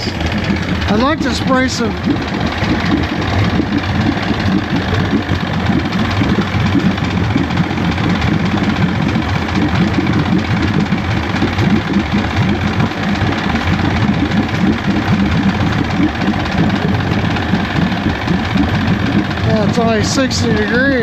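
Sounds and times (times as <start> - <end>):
outboard motor idling: 0.0 - 21.0.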